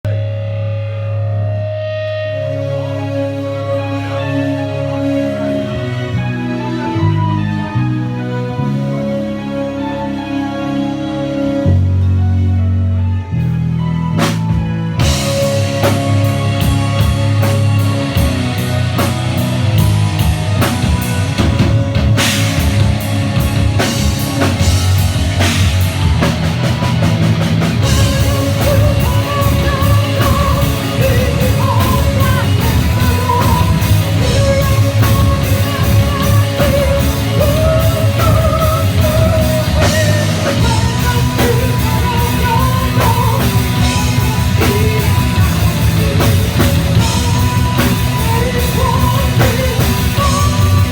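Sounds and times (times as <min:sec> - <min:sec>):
distorted guitars: 0:00.0 - 0:50.9
metal band playing live: 0:00.0 - 0:50.9
melodic lead guitar line: 0:00.1 - 0:50.9.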